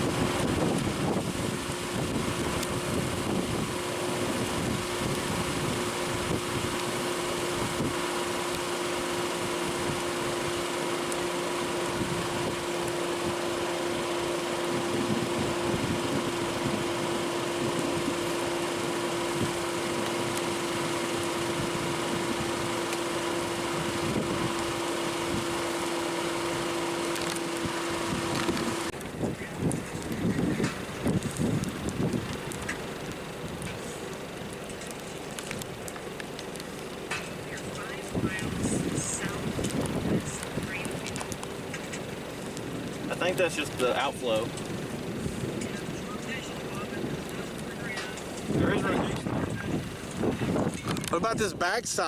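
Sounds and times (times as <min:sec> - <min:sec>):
vehicle mechanical hum: 0:00.0 - 0:52.0.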